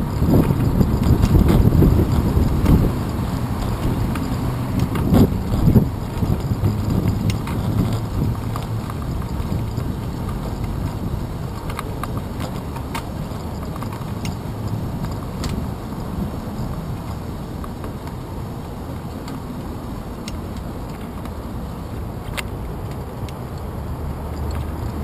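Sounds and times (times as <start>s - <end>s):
bicycle clicks and rattles: 0.0s - 25.0s
wind and road rumble: 0.0s - 25.0s.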